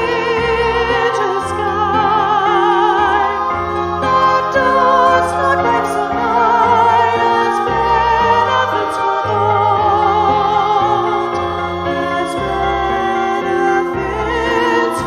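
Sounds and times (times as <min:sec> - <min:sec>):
classical singing with vibrato: 0:00.0 - 0:15.0
sustained low accompaniment: 0:00.0 - 0:15.0.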